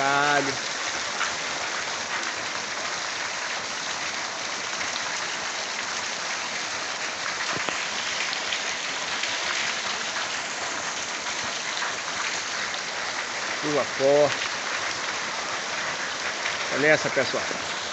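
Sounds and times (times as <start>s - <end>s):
heavy rain pattering: 0.0s - 17.9s.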